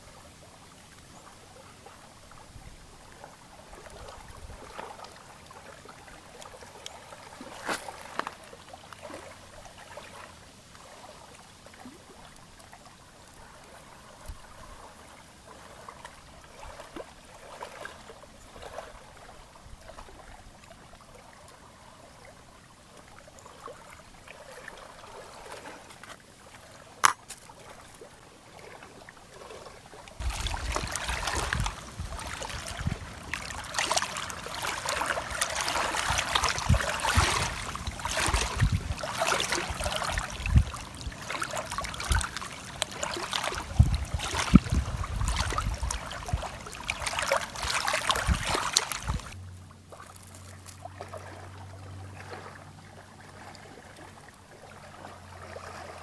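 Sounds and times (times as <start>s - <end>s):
running water rushing: 0.0s - 56.0s
water trickling and lapping: 0.0s - 56.0s.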